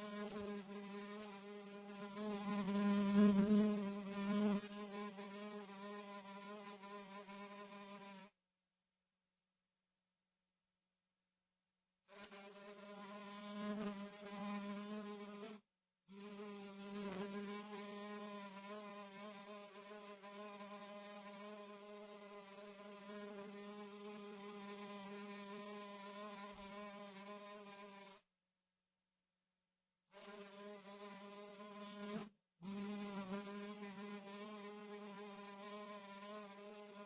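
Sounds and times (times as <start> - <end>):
fly buzzing: 0.0 - 8.4, 12.1 - 28.3, 30.1 - 37.0.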